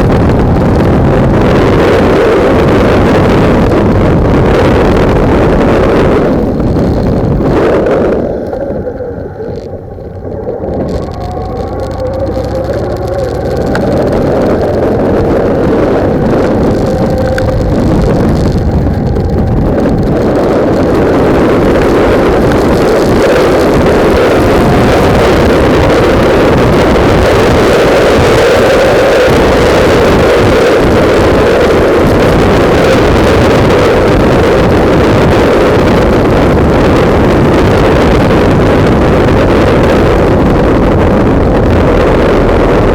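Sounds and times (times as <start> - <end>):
motorcycle engine: 0.0 - 42.9
wind buffeting microphone: 0.0 - 42.9.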